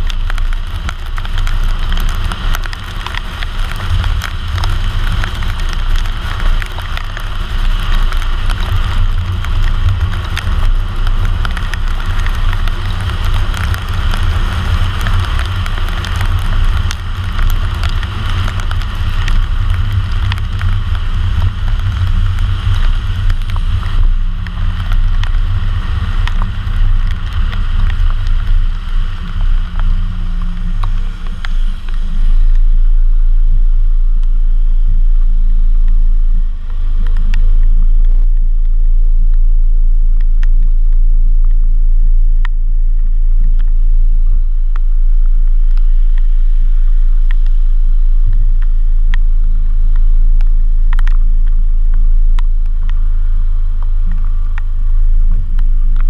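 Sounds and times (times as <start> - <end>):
heavy low rumble: 0.0 - 56.0
raindrops ticking on camera: 0.0 - 56.0
steady low drone: 0.0 - 56.0
tyres hissing on wet road: 0.0 - 56.0.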